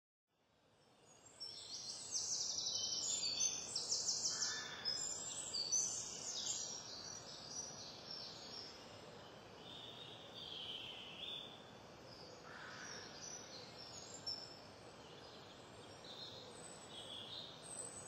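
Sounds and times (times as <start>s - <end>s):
faint outdoor hiss: 0.3s - 18.0s
small birds singing: 0.7s - 18.0s.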